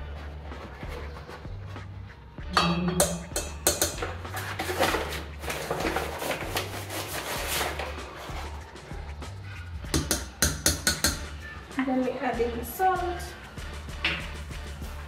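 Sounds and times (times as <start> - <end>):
background music with low beat: 0.0 - 15.0.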